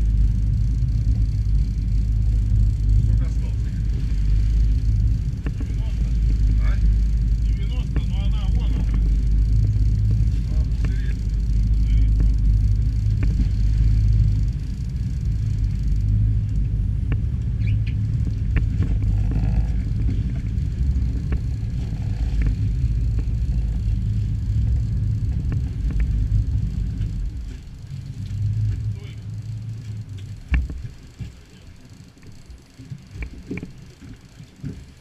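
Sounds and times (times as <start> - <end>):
low rumble of wind and boat: 0.0 - 35.0.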